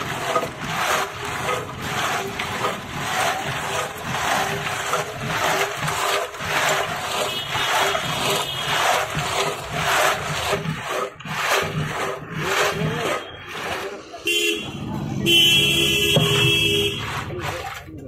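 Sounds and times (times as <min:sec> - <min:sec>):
ice grinding and scraping in clay pot: 0:00.0 - 0:18.0.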